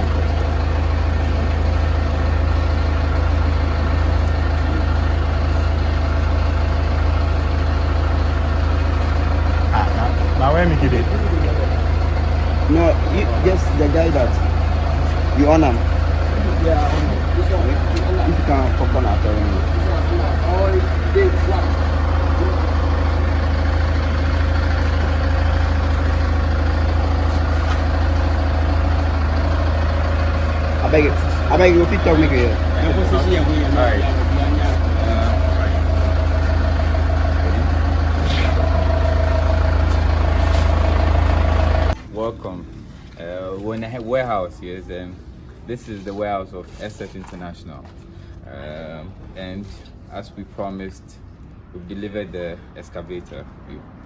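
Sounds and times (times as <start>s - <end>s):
heavy engine idling: 0.0s - 47.3s.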